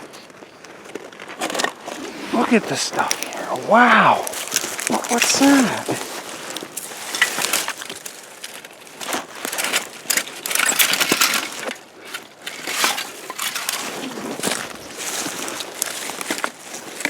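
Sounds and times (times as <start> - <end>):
brush crunching and rustling: 1.2 - 17.0
objects clicking and knocking: 1.4 - 17.0.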